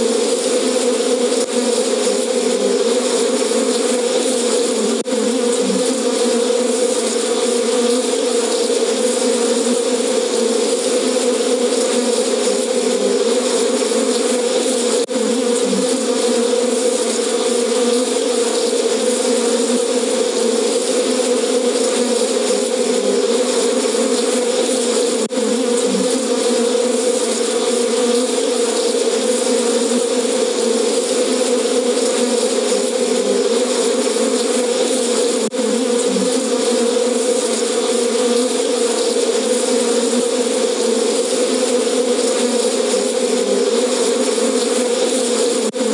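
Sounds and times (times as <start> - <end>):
recorded bees buzzing: 0.0 - 45.9.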